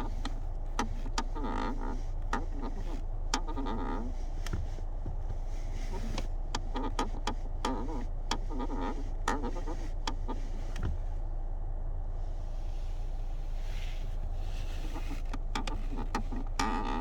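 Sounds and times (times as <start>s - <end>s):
clutch pedal squeaking: 0.0s - 11.2s, 14.2s - 17.0s.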